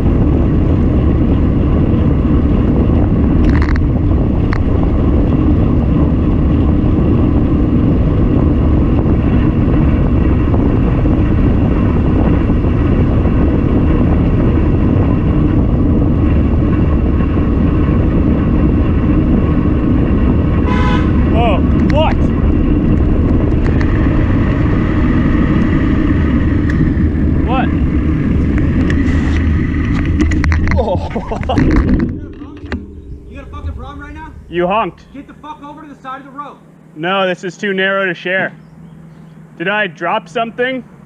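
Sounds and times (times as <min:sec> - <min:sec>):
wind and road noise rumble: 0:00.0 - 0:41.0.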